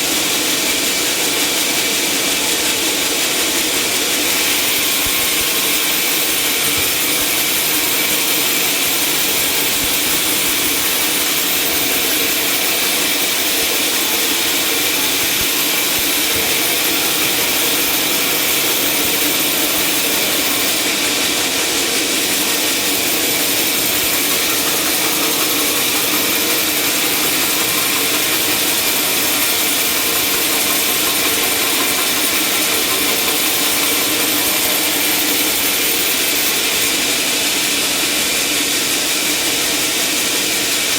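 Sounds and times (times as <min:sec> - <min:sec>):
saw cutting through timber: 0:00.0 - 0:40.9.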